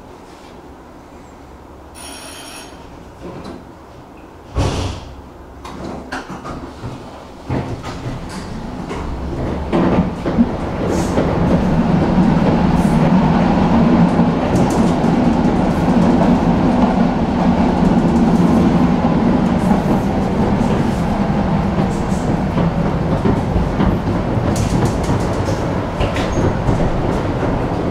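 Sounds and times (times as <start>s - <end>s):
tram motor and wheels rumbling: 0.0s - 27.9s.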